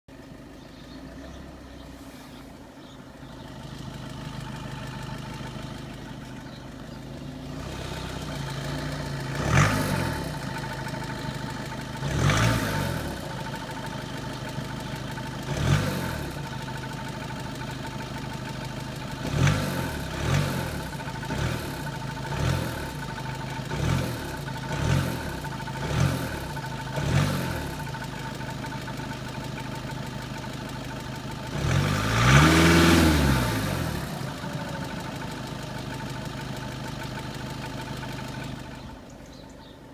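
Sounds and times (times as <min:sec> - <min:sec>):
diesel engine idling and revving: 0:00.1 - 0:39.9
engine rattle: 0:00.1 - 0:39.9.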